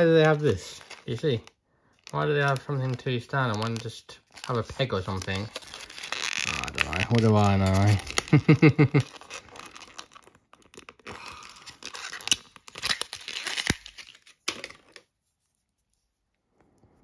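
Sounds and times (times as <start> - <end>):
plastic packaging crinkling: 0.0 - 15.1.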